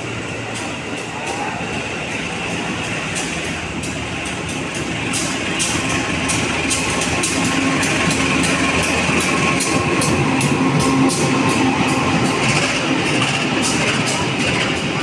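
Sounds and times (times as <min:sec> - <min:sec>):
train rolling rumble: 0:00.0 - 0:15.0
train wheels clacking over rail joints: 0:00.0 - 0:15.0.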